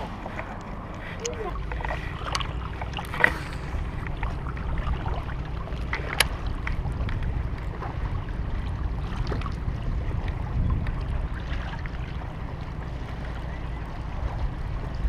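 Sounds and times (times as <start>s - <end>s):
small waves lapping against rocks: 0.0s - 15.0s
wind rumbling on microphone: 0.0s - 15.0s.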